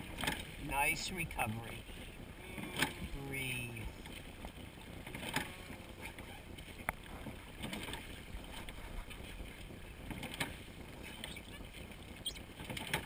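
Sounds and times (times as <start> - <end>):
oars pulling through water: 0.0 - 13.0.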